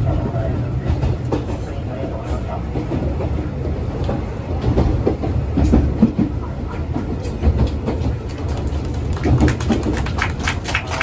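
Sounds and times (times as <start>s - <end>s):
train running on track: 0.0s - 11.0s.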